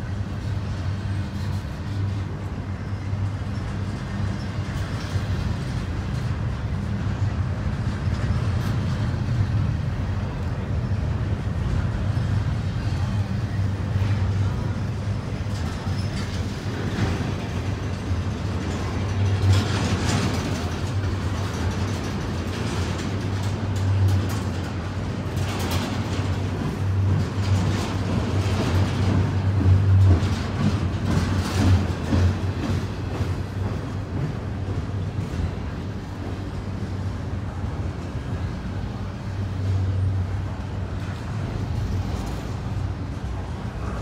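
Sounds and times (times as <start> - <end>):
steel wheels rumbling on rail: 0.0 - 44.0
train cars clanking and rattling: 0.0 - 44.0.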